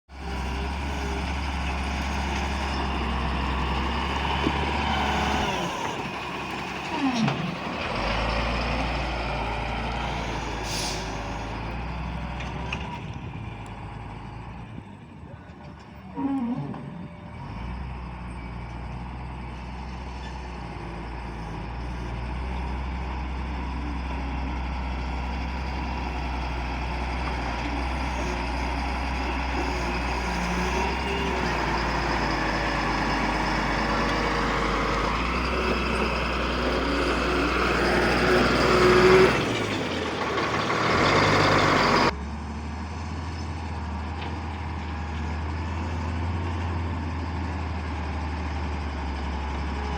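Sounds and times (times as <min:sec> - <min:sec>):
heavy machine engine rumble: 0:00.1 - 0:49.9.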